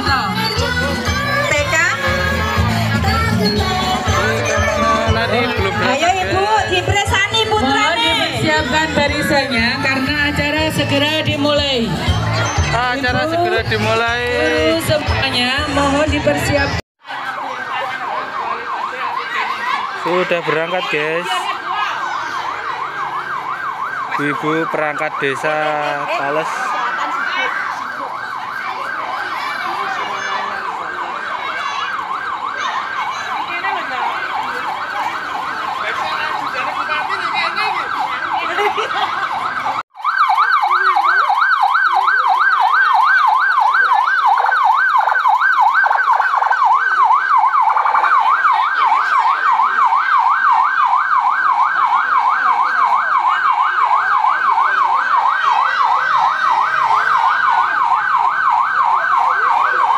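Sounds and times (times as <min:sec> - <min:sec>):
electronic siren yelping: 0:00.0 - 0:59.9.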